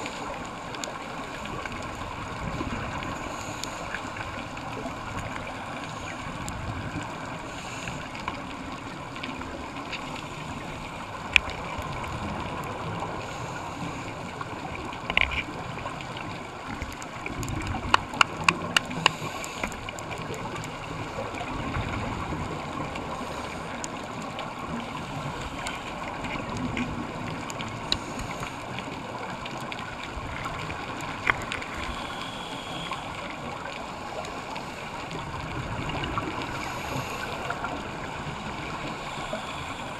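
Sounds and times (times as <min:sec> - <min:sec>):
muffled underwater rushing: 0:00.0 - 0:39.9
scuba exhaust bubbles gurgling: 0:00.0 - 0:39.9.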